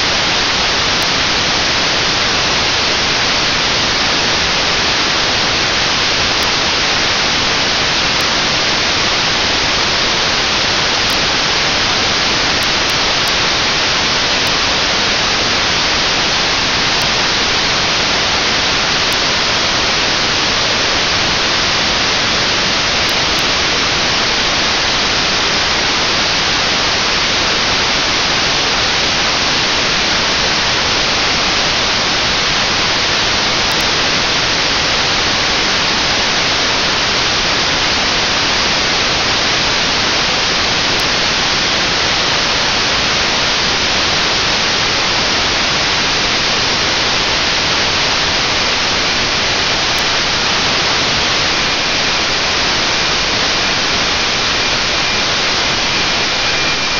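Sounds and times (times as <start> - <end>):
radio static hiss: 0.0 - 56.9.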